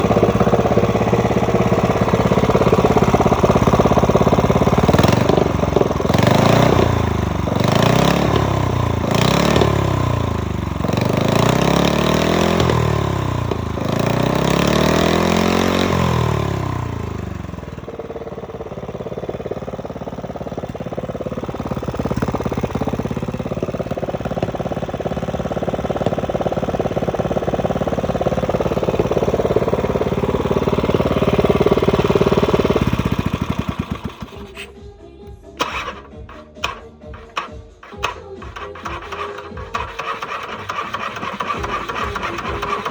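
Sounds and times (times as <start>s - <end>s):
gasoline engine revving and idling: 0.0s - 42.9s.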